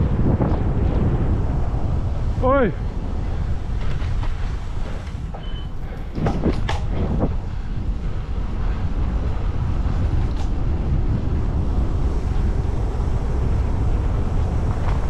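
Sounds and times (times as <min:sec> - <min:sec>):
bike road noise: 0:00.0 - 0:15.0
wind rumble on microphone: 0:00.0 - 0:15.0.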